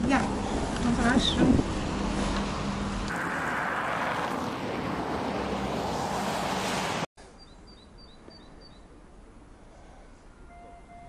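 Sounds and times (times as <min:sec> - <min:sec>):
street noise hiss: 0:00.0 - 0:11.0.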